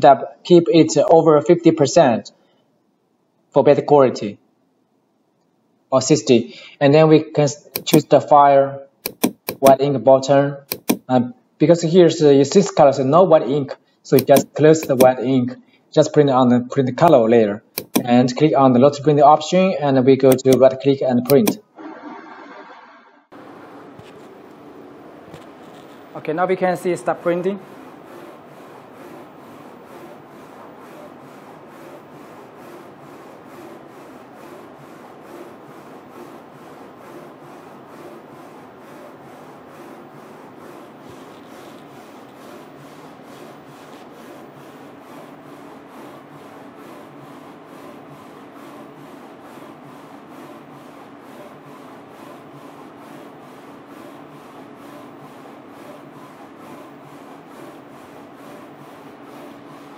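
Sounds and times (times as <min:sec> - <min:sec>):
printer motors whirring: 0:07.7 - 0:08.3, 0:09.0 - 0:09.8, 0:10.6 - 0:11.1, 0:12.4 - 0:15.4, 0:16.8 - 0:59.9.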